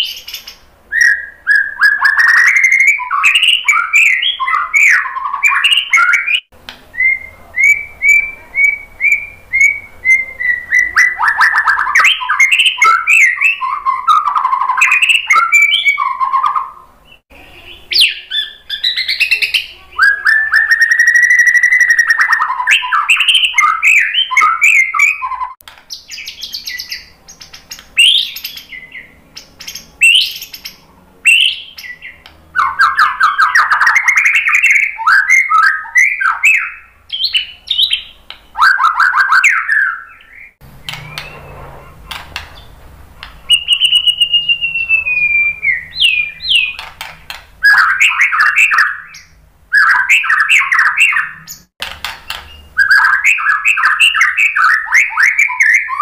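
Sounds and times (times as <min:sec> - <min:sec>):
bird singing whistles and trills: 0:00.0 - 0:46.9, 0:47.6 - 0:51.7, 0:52.3 - 0:56.0.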